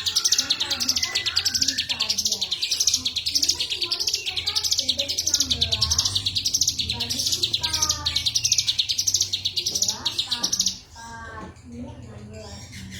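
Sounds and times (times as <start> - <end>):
songbird trilling: 0.0 - 11.0.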